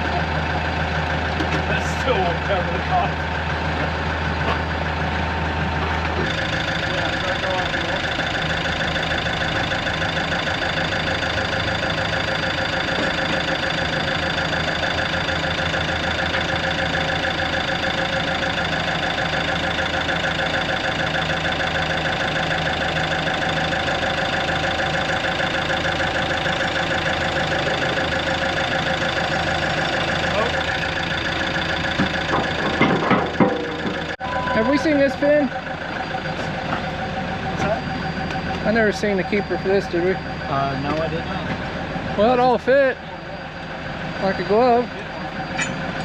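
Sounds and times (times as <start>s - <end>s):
excavator diesel engine idling: 0.0s - 46.0s.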